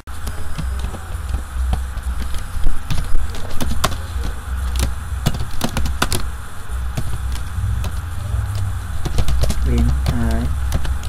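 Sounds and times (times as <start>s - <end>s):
low hum: 1.0s - 11.0s.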